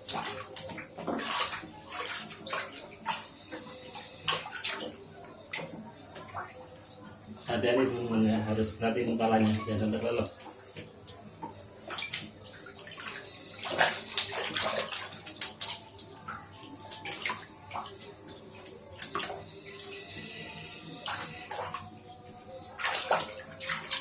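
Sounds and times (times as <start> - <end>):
bird splashing water in tub: 0.0 - 7.6, 9.8 - 24.0.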